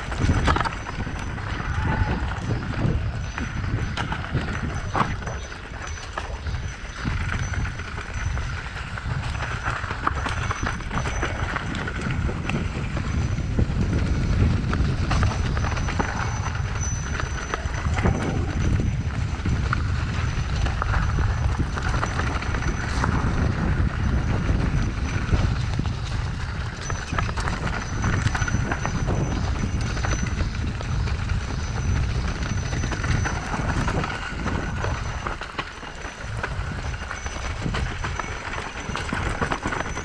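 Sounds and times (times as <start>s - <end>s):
bike clattering: 0.0s - 40.0s
bike tyres bumping over dirt: 0.0s - 40.0s.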